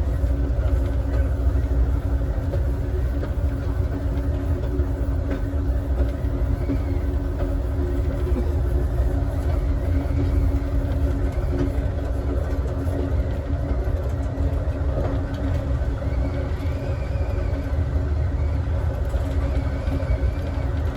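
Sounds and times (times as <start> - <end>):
train car rolling on rails: 0.0 - 20.9.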